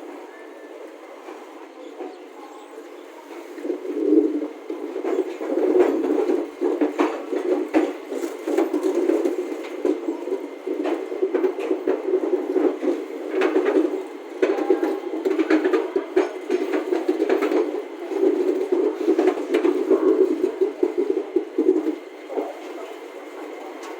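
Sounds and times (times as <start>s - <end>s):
train wheels rumbling on rails: 0.0s - 23.9s
track clicks and rattles: 3.4s - 23.9s.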